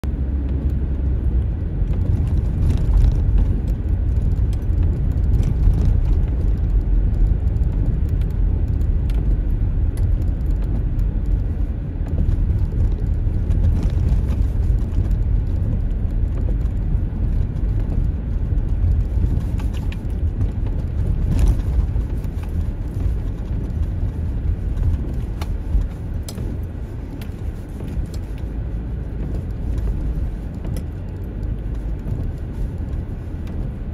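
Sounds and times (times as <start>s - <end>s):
tyres and suspension rumbling: 0.0s - 33.9s
car knocks and rattles: 0.4s - 33.9s.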